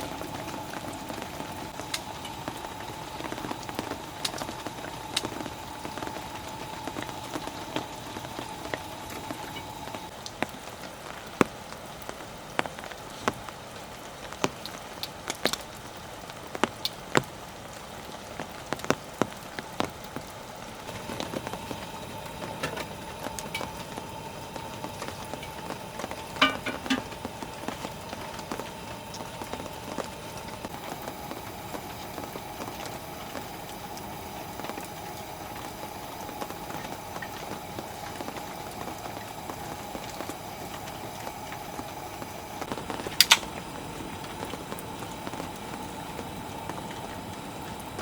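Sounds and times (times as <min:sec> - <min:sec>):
faint steady hum: 0:00.0 - 0:48.0
heavy raindrops tapping: 0:00.0 - 0:48.0
steady rain falling: 0:00.0 - 0:48.0.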